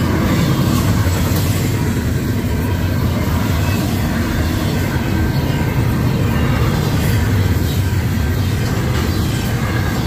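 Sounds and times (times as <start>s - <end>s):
freight train wheels rumbling on rail: 0.0s - 10.0s.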